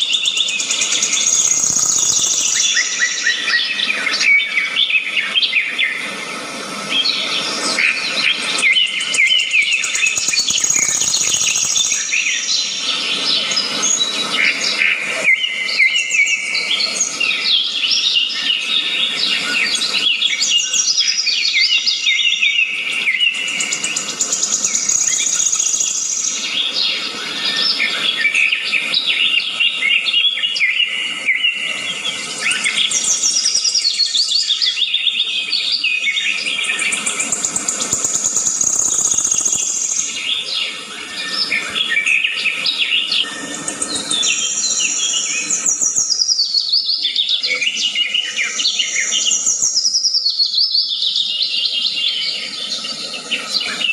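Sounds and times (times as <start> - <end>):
many birds chirping: 0.0 - 53.9.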